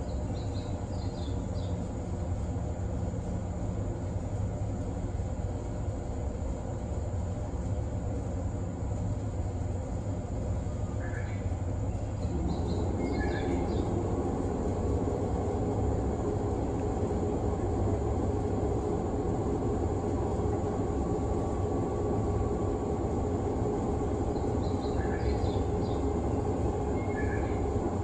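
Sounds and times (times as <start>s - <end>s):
electric train equipment humming: 0.0s - 28.0s.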